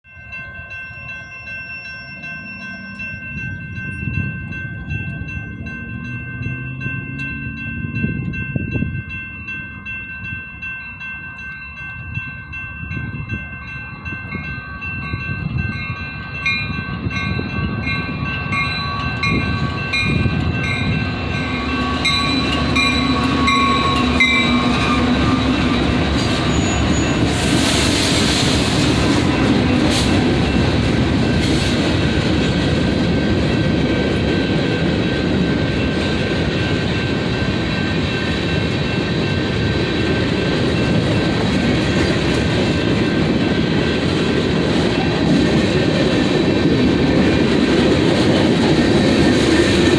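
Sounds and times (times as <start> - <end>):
freight train rumbling: 0.2 - 49.9
train clattering and screeching: 0.3 - 10.8, 12.9 - 49.9.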